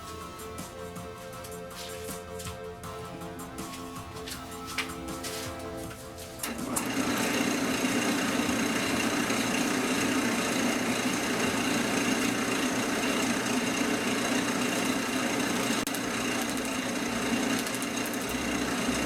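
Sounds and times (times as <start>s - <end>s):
wood lathe running with whine: 2.9s - 19.0s.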